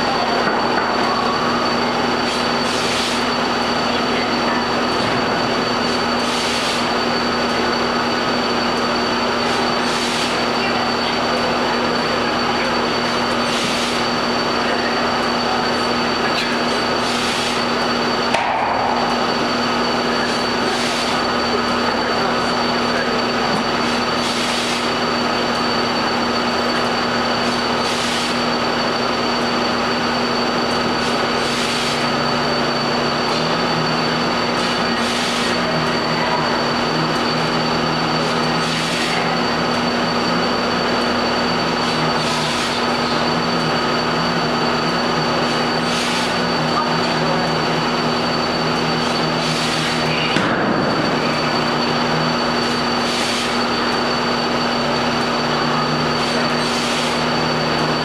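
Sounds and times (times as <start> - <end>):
mechanical drone: 0.0 - 58.0.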